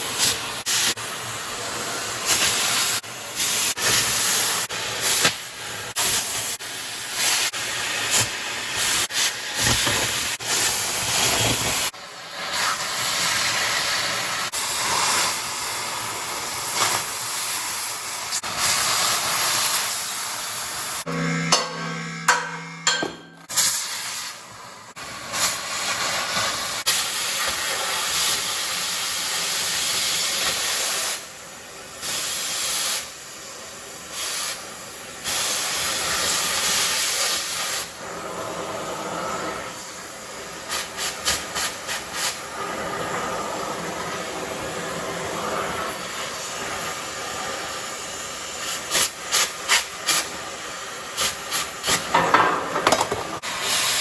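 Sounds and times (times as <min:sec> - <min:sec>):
cutting torch hissing: 0:00.0 - 0:21.2, 0:23.5 - 0:52.2.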